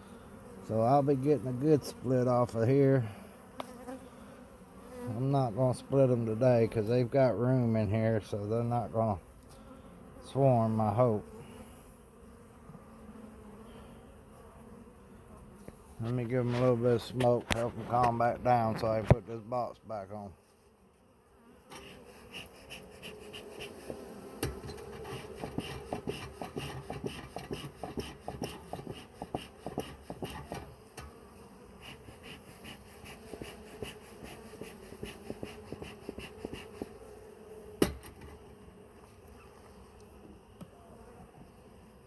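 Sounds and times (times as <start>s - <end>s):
bees buzzing: 0.0s - 42.0s.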